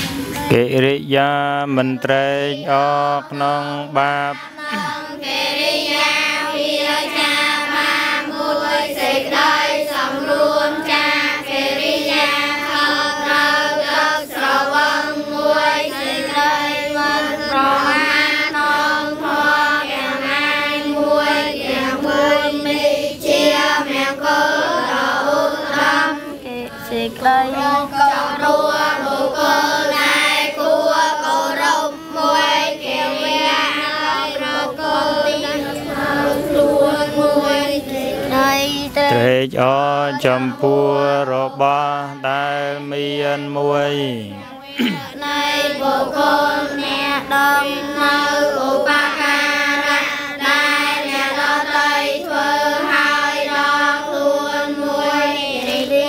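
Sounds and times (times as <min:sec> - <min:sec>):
children chanting prayers in unison: 0:00.0 - 0:56.0.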